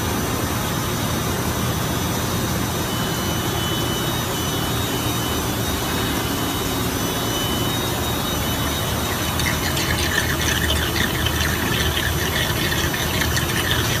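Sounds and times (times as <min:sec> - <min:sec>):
suction machine humming: 0:00.0 - 0:14.0.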